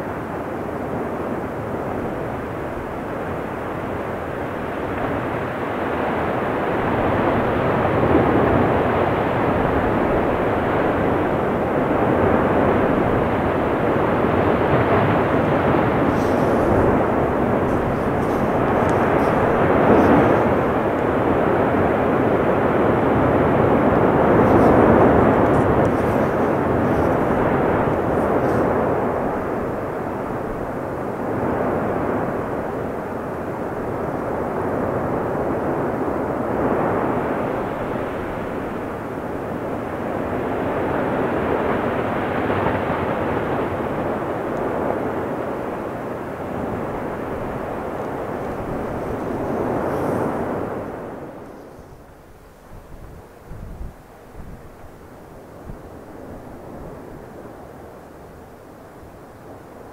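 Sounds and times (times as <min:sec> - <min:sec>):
volcanic eruption roar: 0:00.0 - 0:59.9
faint crackles: 0:00.6 - 0:34.5, 0:36.2 - 0:52.3.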